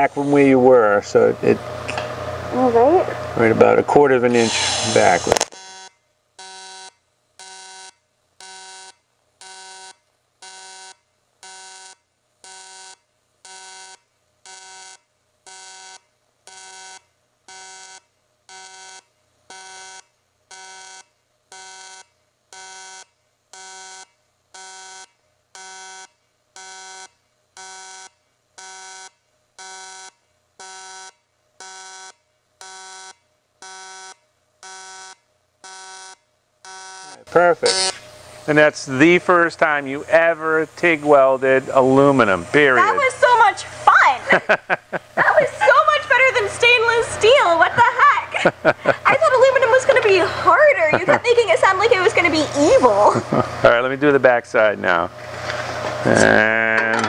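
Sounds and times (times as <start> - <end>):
welding arc buzzing in pulses: 0.0 - 57.0.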